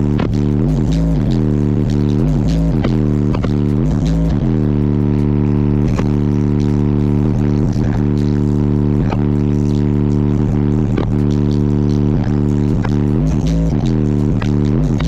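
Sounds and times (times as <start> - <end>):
loud bass music from car speakers: 0.0 - 15.0.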